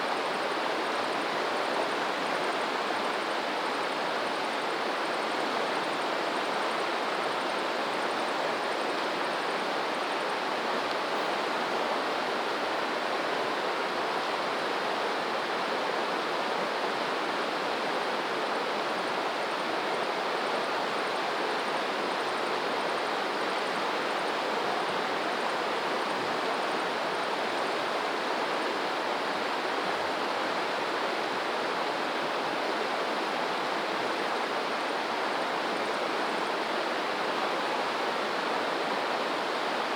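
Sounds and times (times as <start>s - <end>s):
water rushing steadily: 0.0s - 39.9s.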